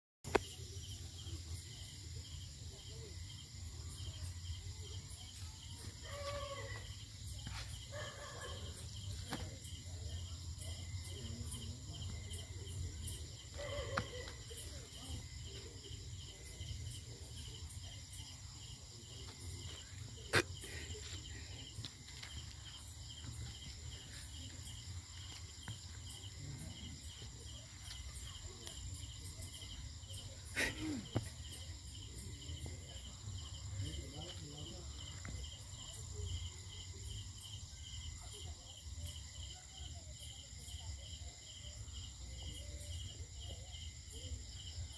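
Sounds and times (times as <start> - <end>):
crickets chirping: 0.3 - 44.9.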